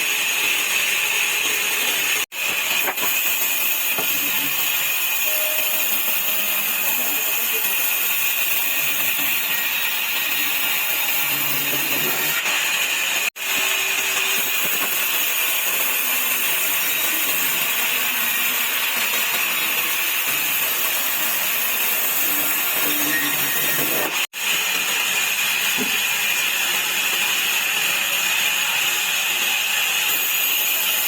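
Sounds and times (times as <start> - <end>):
sawmill saw cutting wood: 0.0 - 31.0.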